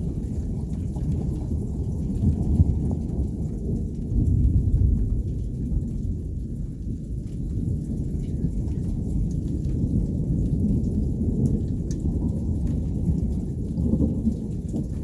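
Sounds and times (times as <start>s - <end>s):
raindrops pattering: 0.0s - 15.0s
thunder rumbling: 0.0s - 15.0s.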